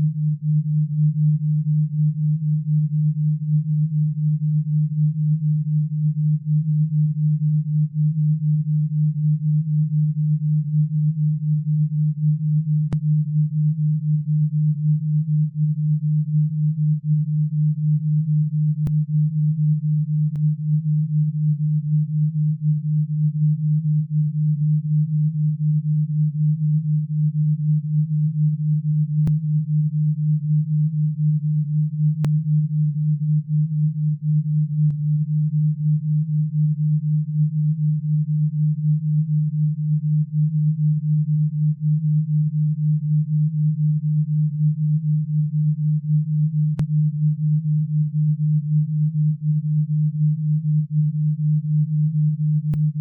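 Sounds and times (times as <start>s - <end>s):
low pulsing sine tone: 0.0s - 53.0s.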